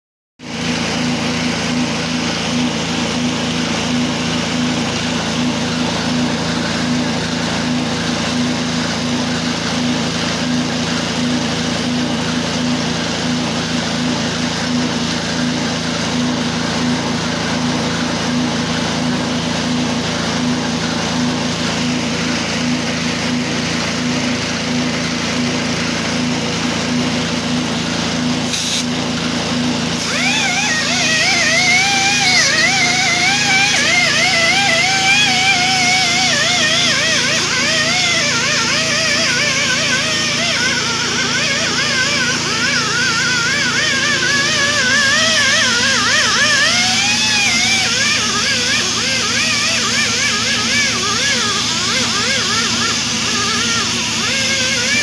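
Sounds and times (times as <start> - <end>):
machine humming with regular pulse: 0.6 - 55.0.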